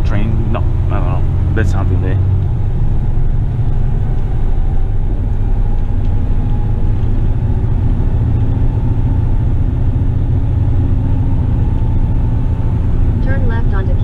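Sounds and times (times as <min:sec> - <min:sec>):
truck diesel engine drone: 0:00.0 - 0:14.0.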